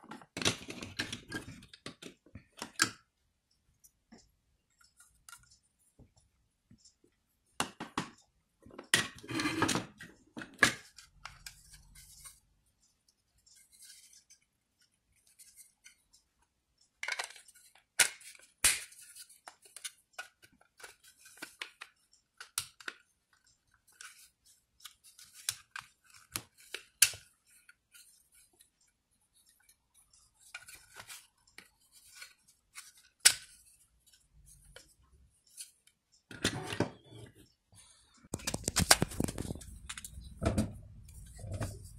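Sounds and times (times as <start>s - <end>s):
plastic parts clicking and knocking: 0.0s - 37.6s, 38.2s - 41.9s.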